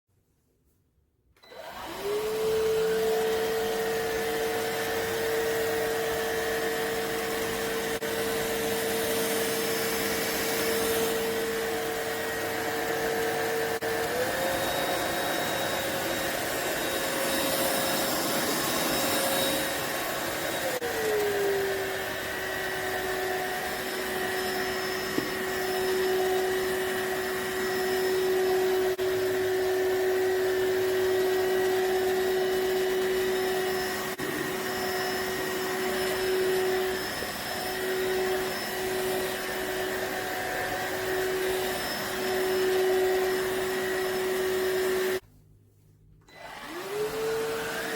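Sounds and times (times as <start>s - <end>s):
stick vacuum motor whine: 1.4s - 45.2s, 46.3s - 47.9s.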